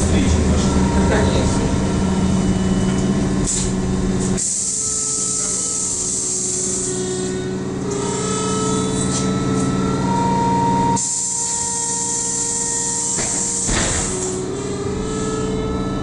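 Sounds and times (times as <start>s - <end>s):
electrical equipment humming: 0.0s - 16.0s
thin whining tones: 0.0s - 16.0s.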